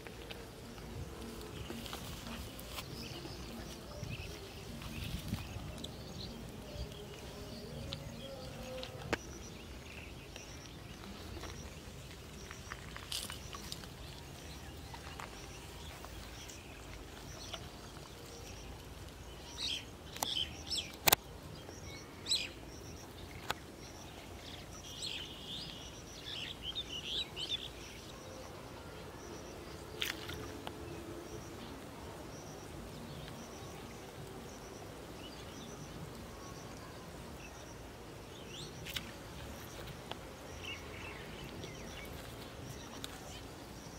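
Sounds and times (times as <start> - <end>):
outdoor background noise: 0.0 - 43.9
small birds chirping: 0.0 - 43.9.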